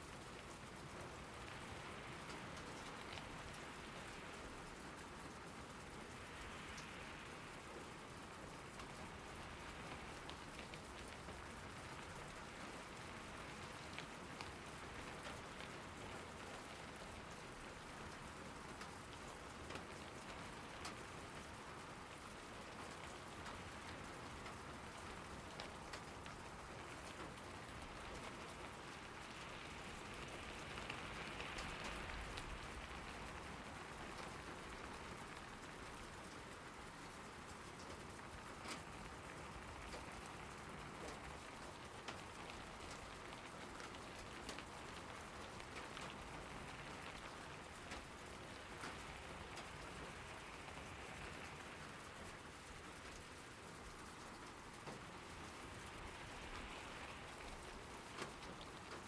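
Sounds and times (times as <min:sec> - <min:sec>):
raindrop ticks: 0:00.0 - 0:59.0
steady rain falling: 0:00.0 - 0:59.0.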